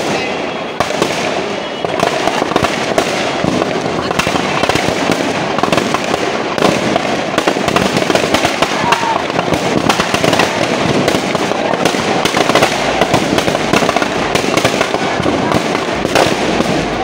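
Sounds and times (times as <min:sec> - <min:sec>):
firecrackers crackling and banging: 0:00.0 - 0:17.0.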